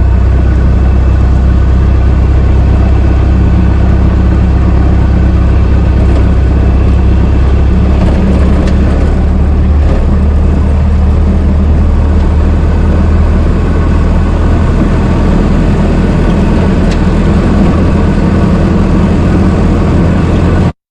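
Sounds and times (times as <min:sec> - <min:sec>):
car engine humming: 0:00.0 - 0:20.8.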